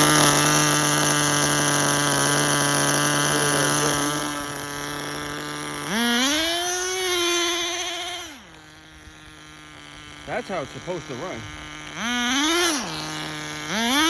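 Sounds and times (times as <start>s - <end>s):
small glow engine running: 0.0s - 14.0s.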